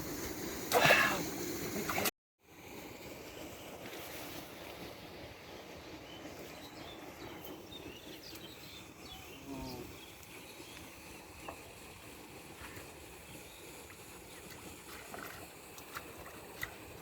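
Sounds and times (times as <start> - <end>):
low rush of water and wind: 0.0 - 17.0.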